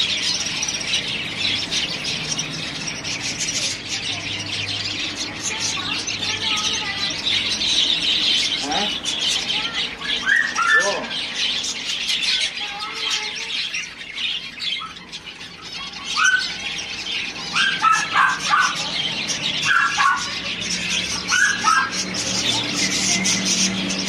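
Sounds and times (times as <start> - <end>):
finches calling: 0.0 - 24.0.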